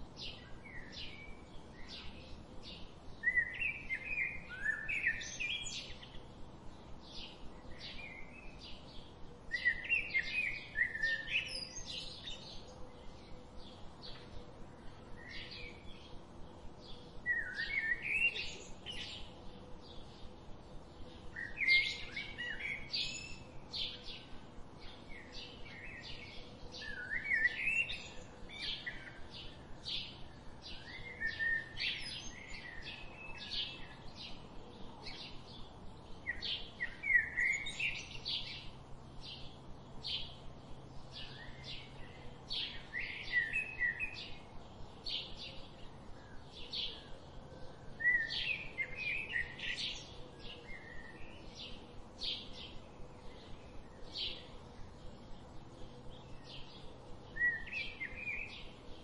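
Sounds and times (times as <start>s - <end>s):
small birds chirping: 0.0s - 59.0s
bird warbling song: 0.2s - 6.3s, 7.0s - 16.2s, 16.8s - 19.3s, 21.0s - 40.5s, 41.1s - 59.0s.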